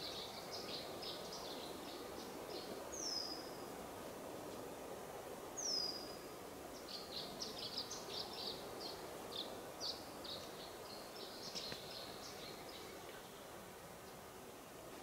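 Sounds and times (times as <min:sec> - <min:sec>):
songbird chirping: 0:00.0 - 0:03.8, 0:05.5 - 0:14.8
faint background hiss: 0:00.0 - 0:15.0.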